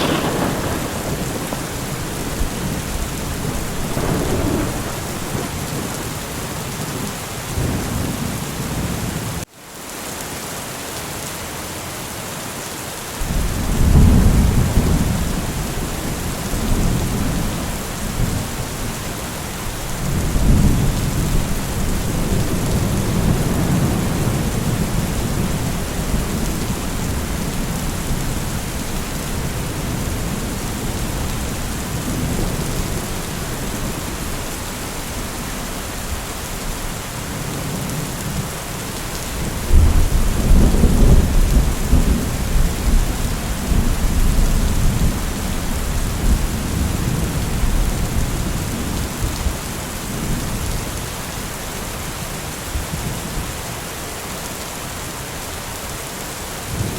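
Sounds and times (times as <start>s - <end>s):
rolling thunder: 0.0s - 9.1s, 13.2s - 38.5s, 39.3s - 50.8s
steady rain: 0.0s - 56.9s.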